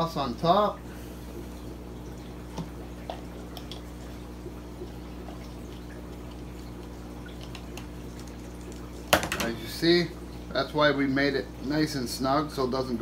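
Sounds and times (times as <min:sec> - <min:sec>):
aquarium equipment hum: 0:00.0 - 0:13.0
water trickling and dripping: 0:00.4 - 0:12.9.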